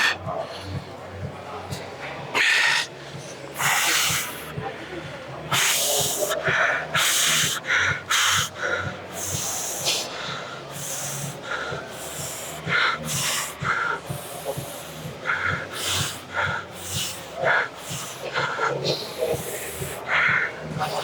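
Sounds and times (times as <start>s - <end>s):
man breathing hard: 2.4s - 21.0s.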